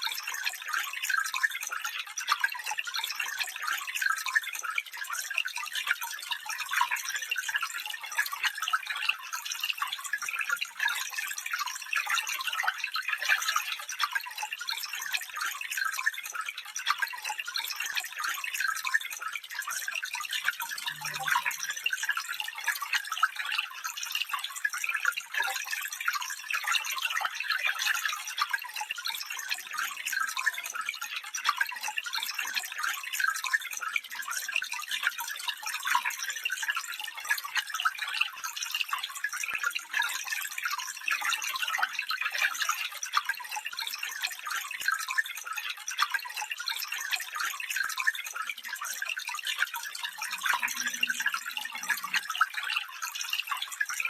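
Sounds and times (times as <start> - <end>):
stream water over stones: 0.0 - 54.0.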